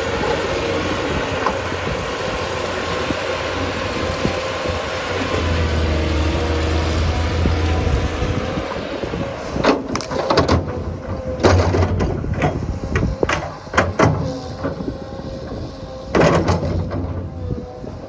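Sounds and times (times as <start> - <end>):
digging machine engine humming: 0.0 - 18.0.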